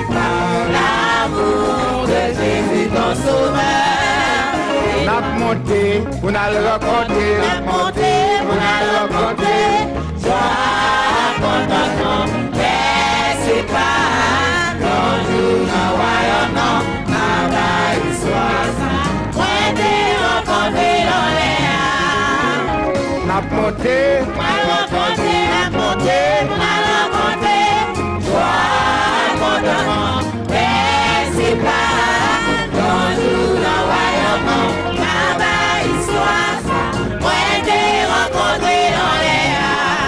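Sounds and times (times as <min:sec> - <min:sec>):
band with brass bass horn: 0:00.0 - 0:40.0
choir and congregation singing: 0:00.0 - 0:40.0.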